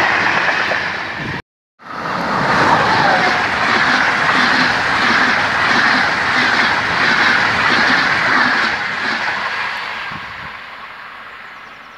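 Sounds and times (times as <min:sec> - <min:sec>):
train passing at speed: 0:00.0 - 0:11.9.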